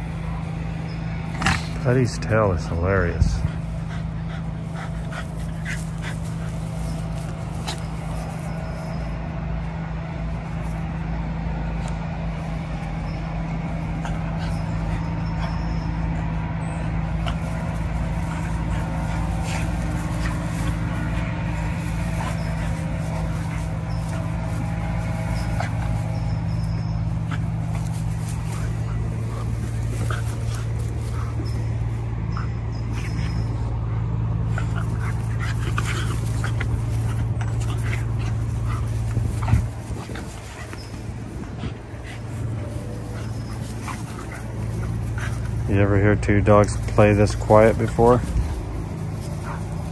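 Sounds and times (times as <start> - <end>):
low mechanical hum: 0.0 - 49.9
puppies whimpering: 0.8 - 49.9
rustling: 3.6 - 49.9.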